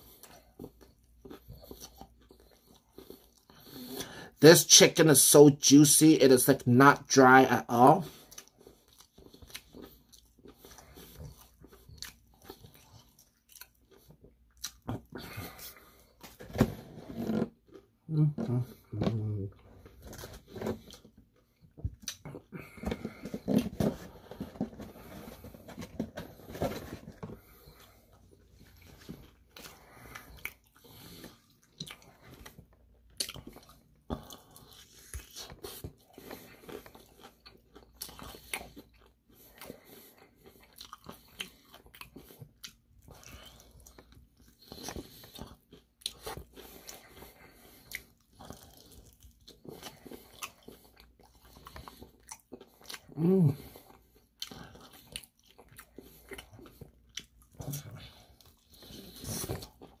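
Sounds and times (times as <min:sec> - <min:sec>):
crunchy chewing: 0:00.0 - 0:04.1, 0:08.1 - 0:17.9, 0:19.5 - 1:00.0.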